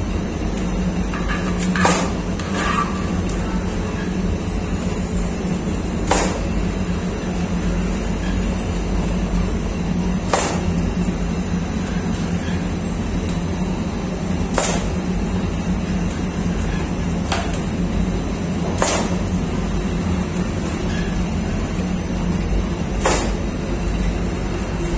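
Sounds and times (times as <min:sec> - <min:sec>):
dough machine humming: 0:00.0 - 0:24.9.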